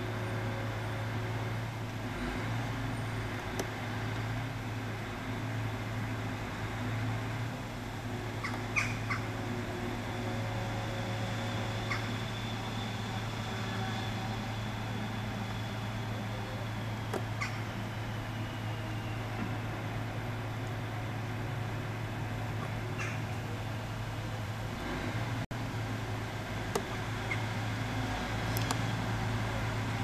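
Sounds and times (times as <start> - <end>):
truck engine humming: 0.0 - 30.0.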